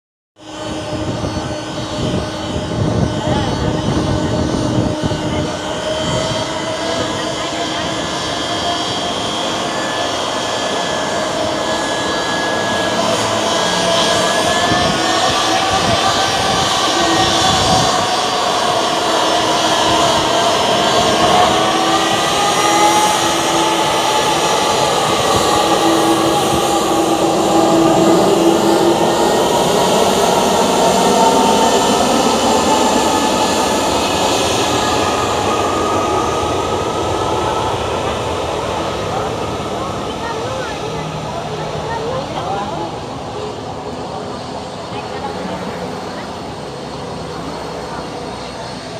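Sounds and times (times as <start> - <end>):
jet engines taxiing: 0.4 - 48.9.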